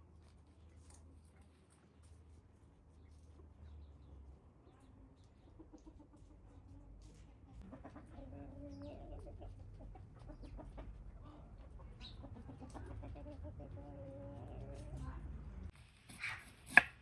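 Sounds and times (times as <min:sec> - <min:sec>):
chickens clucking: 0:03.1 - 0:17.0.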